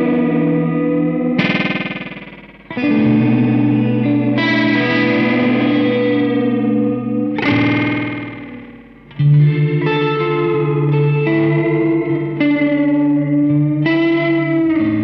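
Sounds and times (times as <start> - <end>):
electric guitar chords with delay: 0.0 - 15.0.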